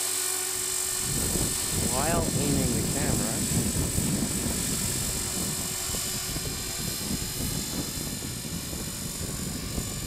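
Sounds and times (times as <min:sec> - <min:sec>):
model helicopter hovering: 0:00.0 - 0:10.0.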